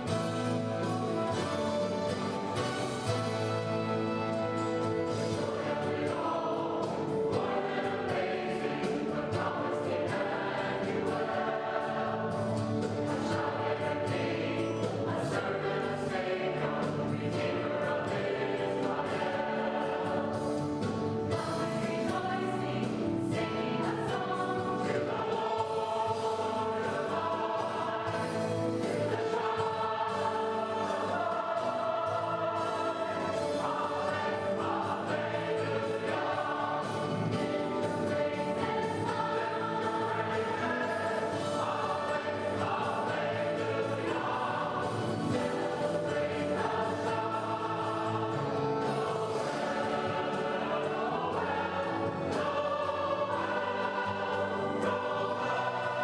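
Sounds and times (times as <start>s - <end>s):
church choir singing: 0.0s - 56.0s
instrumental accompaniment: 0.0s - 56.0s.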